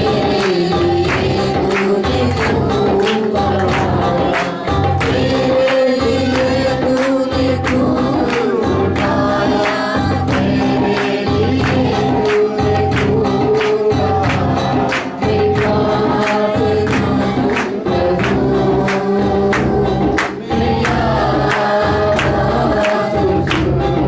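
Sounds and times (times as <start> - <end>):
choir singing: 0.0 - 24.0
steady drum beat: 0.0 - 24.0.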